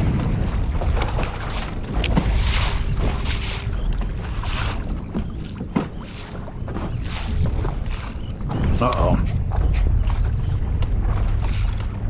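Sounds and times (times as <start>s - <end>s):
water splashing: 0.0s - 12.0s
wind rumbling on microphone: 0.0s - 12.0s.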